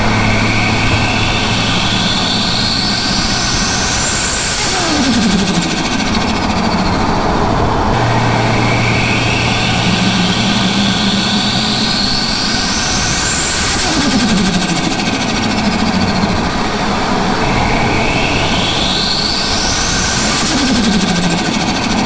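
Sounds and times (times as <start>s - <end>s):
car engine revving: 0.0s - 22.0s
turbo flutter chatter: 0.0s - 22.0s
turbo whine climbing in pitch: 0.0s - 22.0s.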